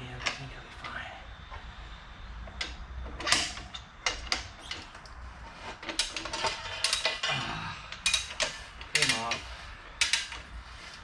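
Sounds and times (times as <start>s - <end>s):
tire scraping and creaking on rim: 0.0s - 11.0s.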